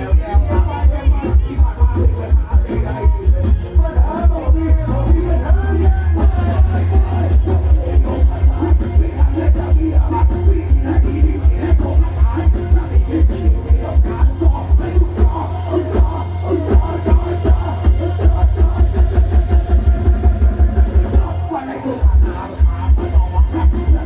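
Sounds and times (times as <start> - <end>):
loud dance music with heavy bass: 0.0 - 24.0.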